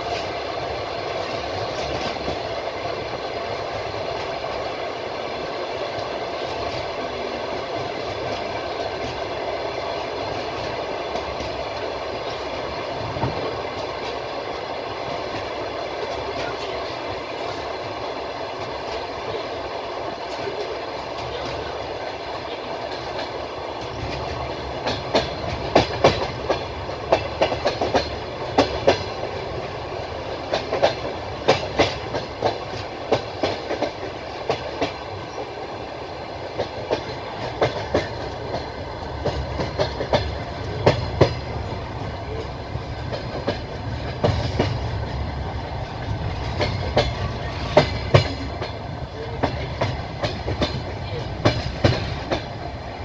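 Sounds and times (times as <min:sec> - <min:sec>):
rumble of moving train carriage: 0:00.0 - 0:53.0
train wheels clacking over rail joints: 0:00.0 - 0:53.0.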